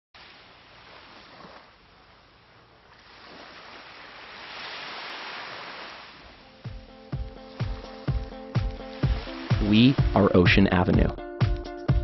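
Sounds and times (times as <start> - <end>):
gentle surf on sandy beach: 0.2 - 11.1.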